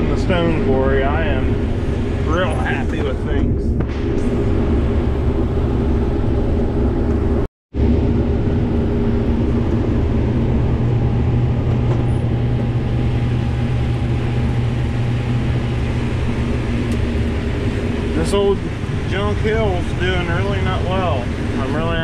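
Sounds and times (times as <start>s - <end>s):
combine harvester engine drone: 0.0s - 22.0s.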